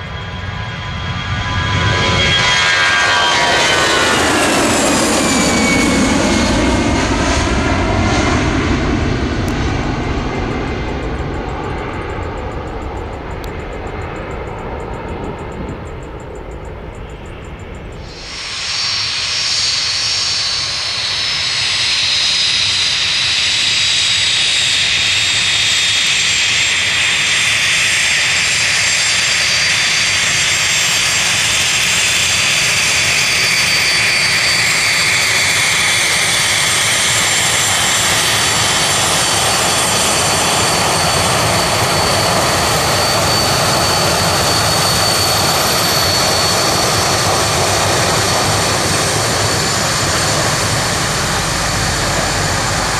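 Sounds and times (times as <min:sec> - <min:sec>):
jet engines roaring with whine: 0:00.0 - 0:52.9.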